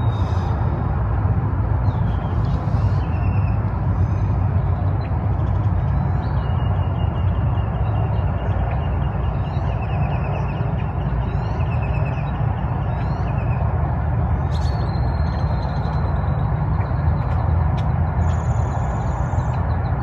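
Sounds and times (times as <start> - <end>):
birds chirping and trilling: 0.0 - 0.7, 1.8 - 20.0.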